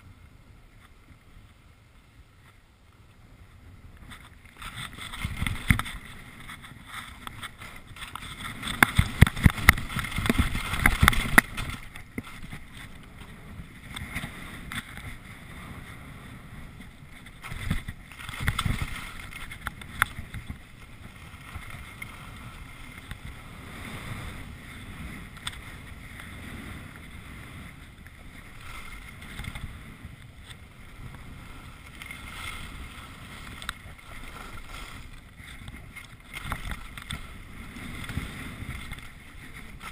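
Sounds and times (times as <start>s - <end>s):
skis sliding on snow: 0.0s - 39.9s
wind rushing over microphone: 3.4s - 39.9s.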